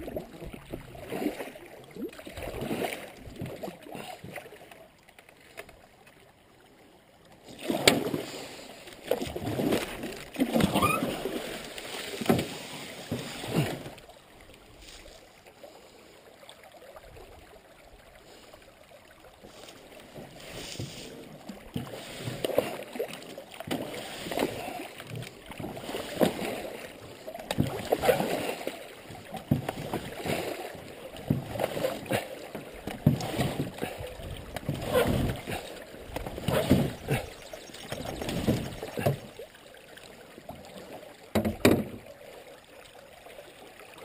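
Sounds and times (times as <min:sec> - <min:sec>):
paddle strokes in water: 0:00.0 - 0:44.0
water splashes: 0:00.0 - 0:44.0.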